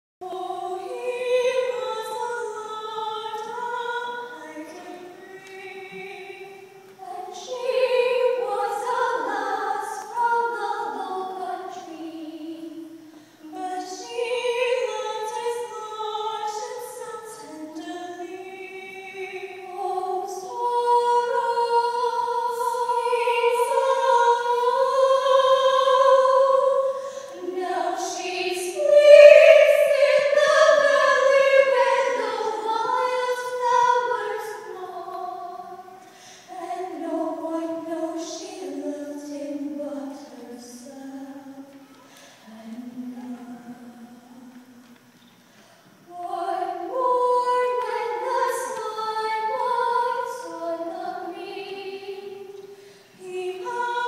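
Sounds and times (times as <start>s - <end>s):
two women singing: 0.2s - 44.9s, 46.1s - 54.0s.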